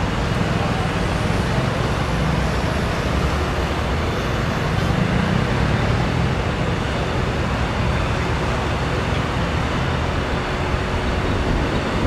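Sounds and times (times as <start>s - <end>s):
motorway traffic rumble: 0.0s - 12.0s.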